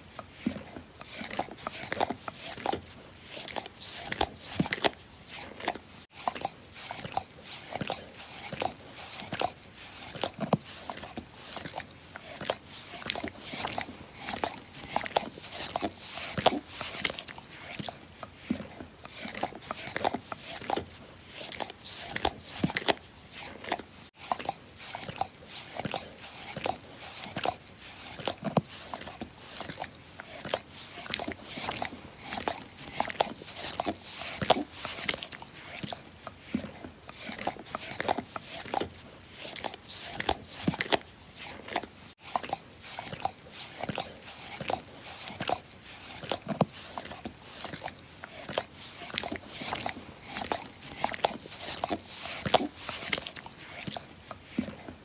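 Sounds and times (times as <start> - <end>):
dog licking and slurping: 0.0 - 55.0.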